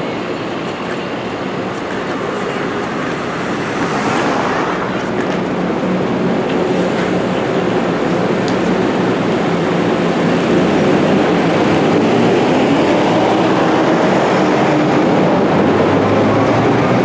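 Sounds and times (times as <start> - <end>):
coach engine rumble: 0.0 - 17.0
road noise: 0.0 - 17.0.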